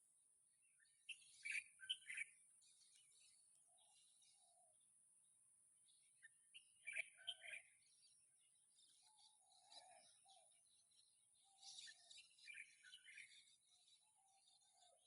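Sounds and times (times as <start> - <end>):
birds chirping and calling: 0.7 - 4.8, 5.9 - 15.0.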